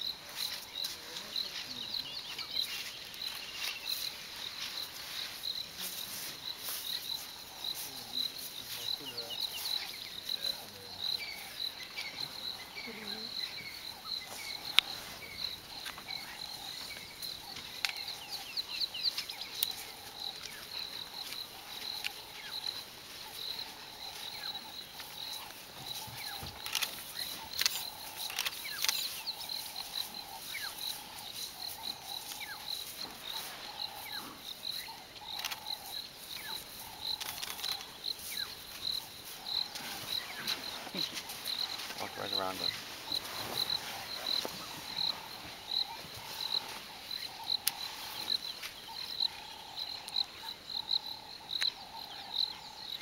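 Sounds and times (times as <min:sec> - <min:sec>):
high insect chirp: 0:00.0 - 0:53.0
lower pulsing insect call: 0:00.0 - 0:53.0.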